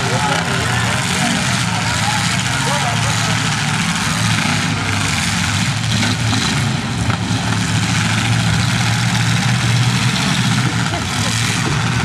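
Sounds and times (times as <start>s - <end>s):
car engines running loudly: 0.0s - 12.0s.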